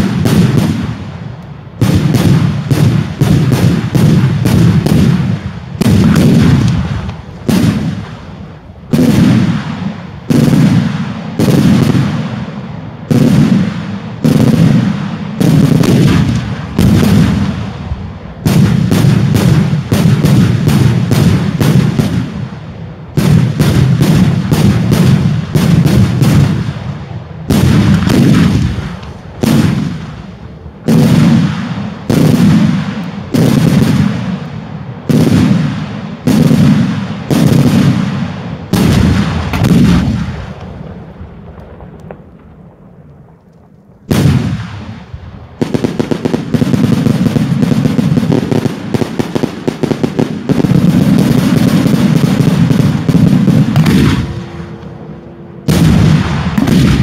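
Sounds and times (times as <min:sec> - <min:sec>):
fireworks exploding: 0:00.0 - 0:57.0.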